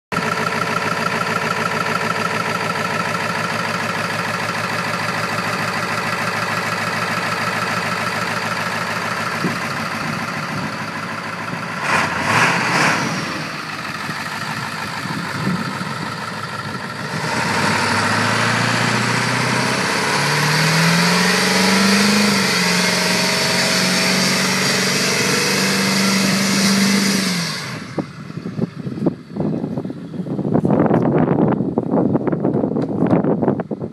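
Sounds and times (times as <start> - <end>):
diesel truck engine revving: 0.1 - 30.5.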